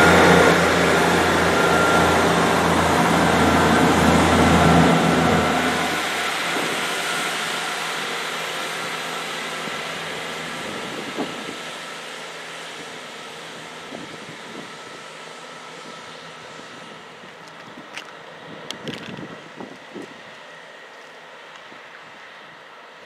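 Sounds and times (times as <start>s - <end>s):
diesel train pulling away: 0.0s - 23.0s.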